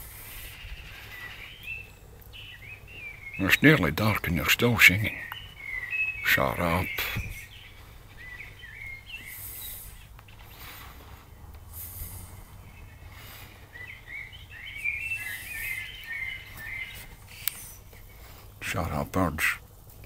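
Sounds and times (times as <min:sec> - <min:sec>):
songbirds warbling: 0:00.0 - 0:20.0
steady low rumble: 0:00.0 - 0:20.0.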